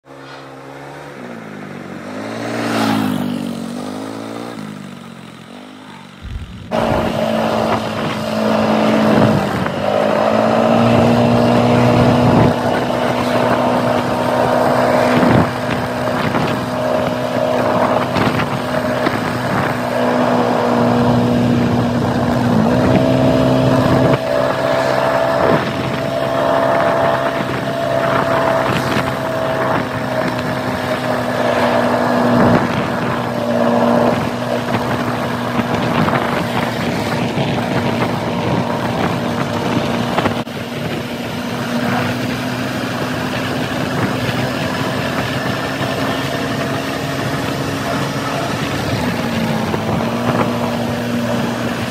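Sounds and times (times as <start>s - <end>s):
quad bike engine: 0.0s - 51.9s.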